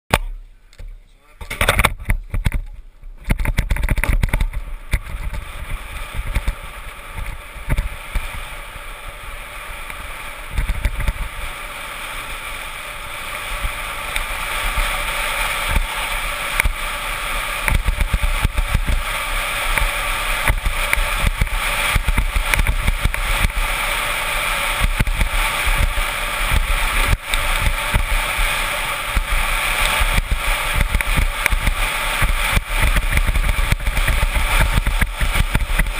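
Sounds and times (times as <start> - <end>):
wind rushing over camera: 0.2 - 35.9
wheels rattling on asphalt: 0.8 - 35.9.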